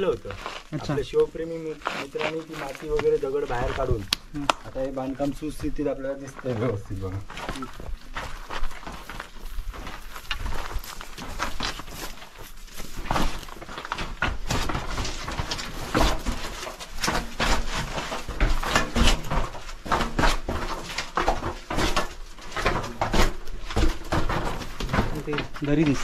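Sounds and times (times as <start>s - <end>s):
irregular footsteps and scuffs: 0.0s - 26.0s.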